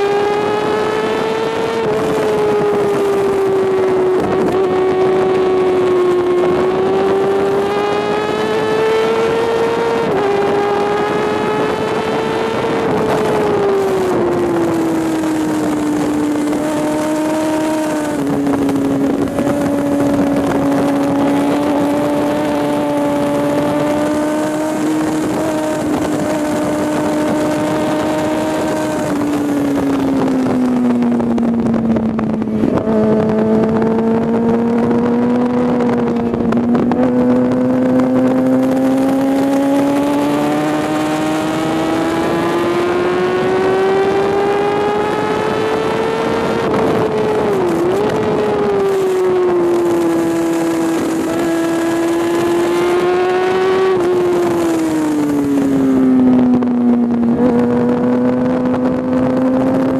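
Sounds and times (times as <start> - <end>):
motorcycle engine at high revs: 0.0 - 59.9
wind rushing over microphone: 0.0 - 59.9.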